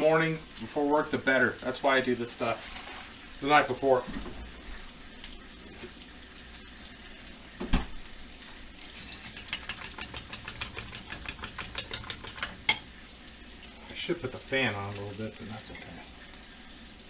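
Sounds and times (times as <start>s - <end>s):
bacon sizzling in a frying pan: 0.0s - 17.0s.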